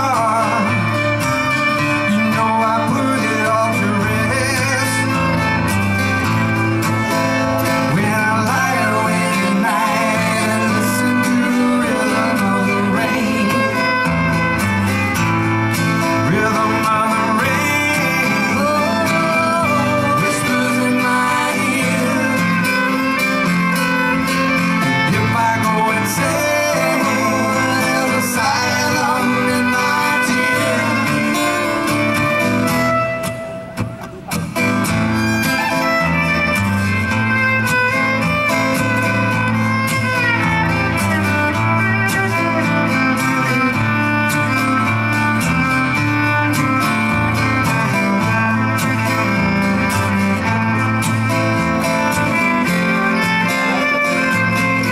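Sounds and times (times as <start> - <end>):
fiddle playing: 0.0 - 54.9
strummed acoustic guitar: 0.0 - 54.9.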